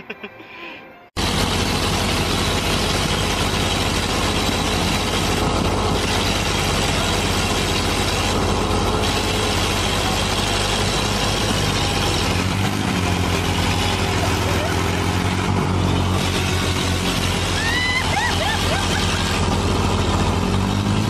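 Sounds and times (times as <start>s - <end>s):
tractor engine running under load: 1.2s - 21.0s.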